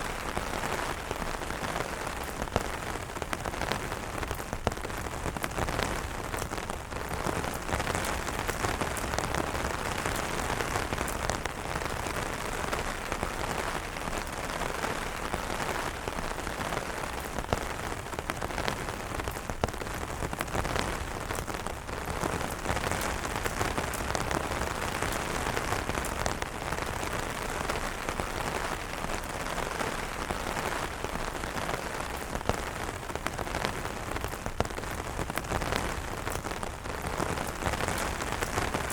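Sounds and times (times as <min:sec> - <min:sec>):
rain on umbrella fabric: 0:00.0 - 0:38.9.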